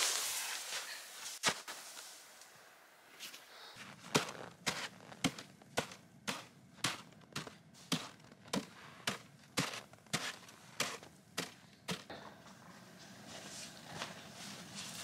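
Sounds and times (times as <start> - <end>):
footsteps crunching in snow: 0.0 - 2.4, 3.1 - 15.0.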